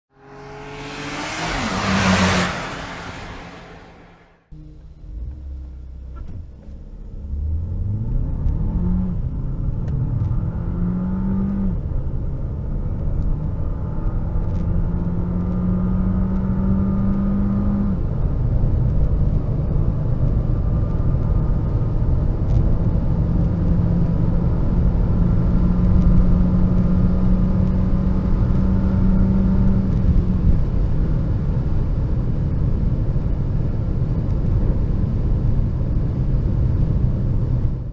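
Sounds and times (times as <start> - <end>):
car engine accelerating: 0.1 - 37.9
road and wind noise: 0.1 - 37.9.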